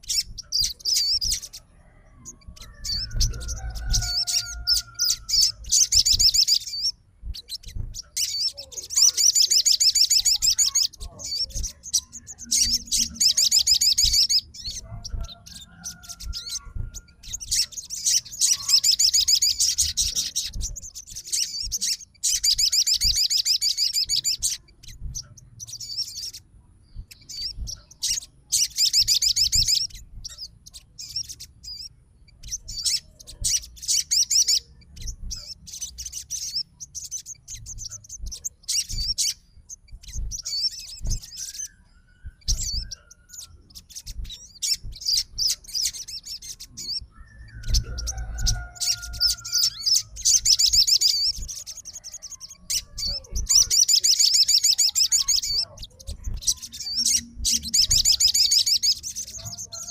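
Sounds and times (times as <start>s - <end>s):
bird chirps: 0.0s - 59.9s
bird trilling song: 0.0s - 59.9s.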